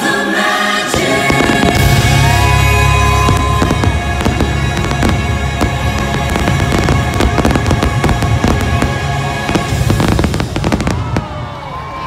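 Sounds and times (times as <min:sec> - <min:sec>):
show music: 0:00.0 - 0:11.4
fireworks bursting and crackling: 0:00.9 - 0:12.0.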